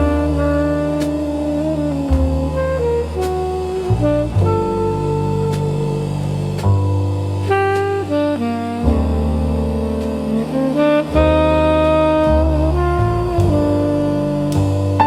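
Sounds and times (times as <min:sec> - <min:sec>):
low bass line: 0:00.0 - 0:15.0
saxophone melody: 0:00.0 - 0:15.0.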